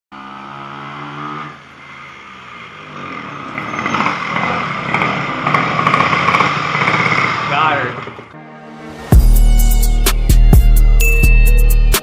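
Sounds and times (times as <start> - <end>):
moped engine revving: 0.2 - 10.5.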